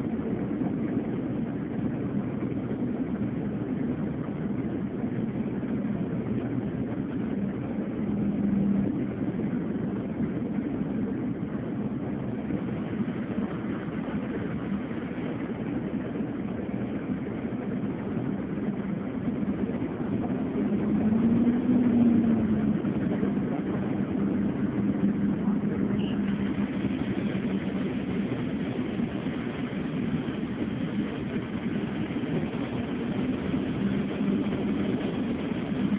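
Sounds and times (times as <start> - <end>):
vehicle engine and road noise: 0.0 - 35.9.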